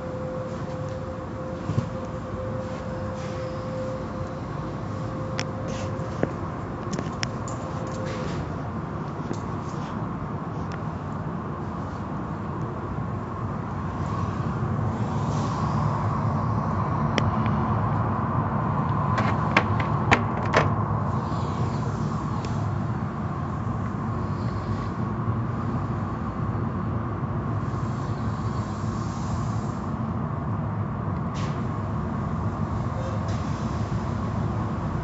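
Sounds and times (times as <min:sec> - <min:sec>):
water spray and wash machinery: 0:00.0 - 0:35.0.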